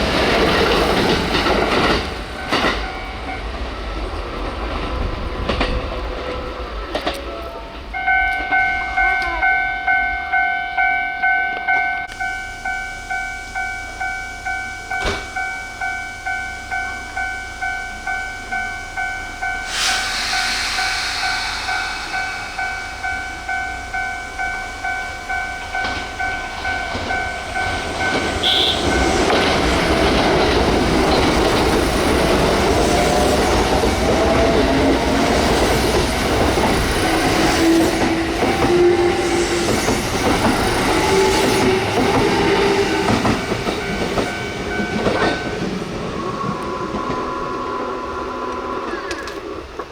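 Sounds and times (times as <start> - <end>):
train wheel clatter: 0.0 - 9.4, 14.8 - 16.0, 19.7 - 23.8, 24.4 - 49.9
level-crossing alarm dinging: 7.3 - 47.9.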